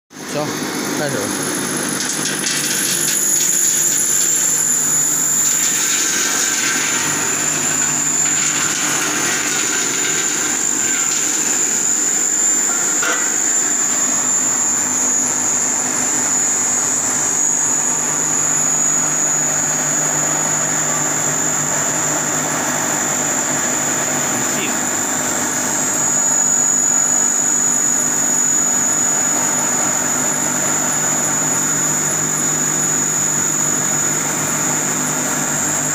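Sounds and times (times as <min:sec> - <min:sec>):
grinding machine whining: 0:00.2 - 0:35.9.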